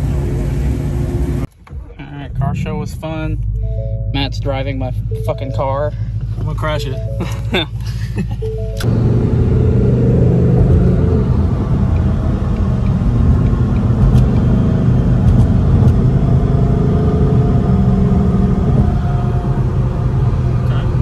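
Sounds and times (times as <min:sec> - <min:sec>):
car engine and road drone: 0:00.0 - 0:21.0.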